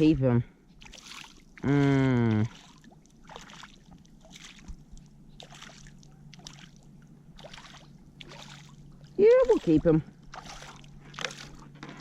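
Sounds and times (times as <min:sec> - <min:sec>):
water lapping against kayak hull: 0:00.0 - 0:12.0.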